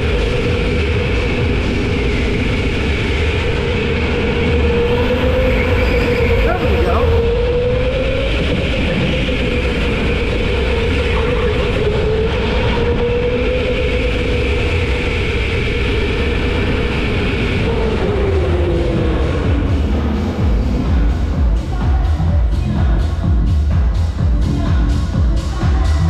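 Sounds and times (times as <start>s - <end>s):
go-kart engine droning: 0.0s - 23.6s.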